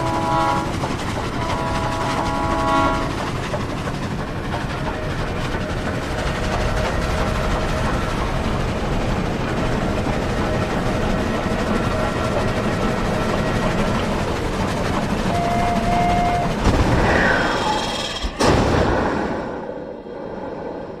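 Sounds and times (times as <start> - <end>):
steam train running: 0.0 - 21.0.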